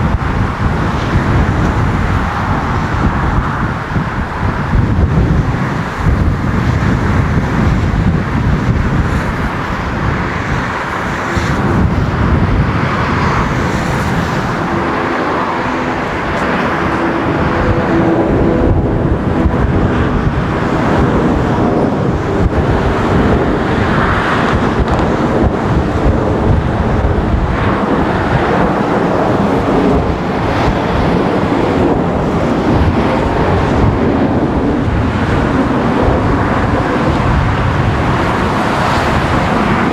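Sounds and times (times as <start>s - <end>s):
jet engines rumbling: 0.0s - 39.9s
road traffic: 0.0s - 39.9s.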